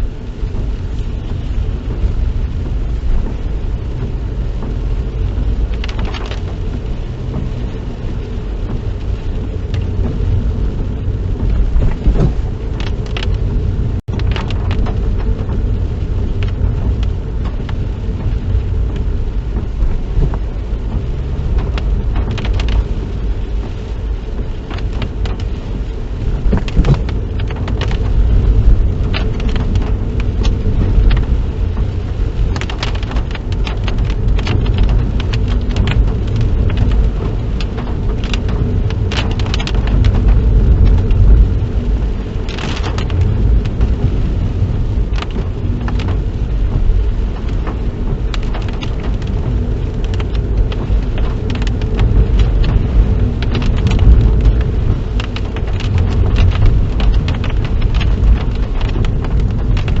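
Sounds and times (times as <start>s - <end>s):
car engine and tyres rumbling: 0.0s - 60.0s
rain hitting car: 0.0s - 60.0s.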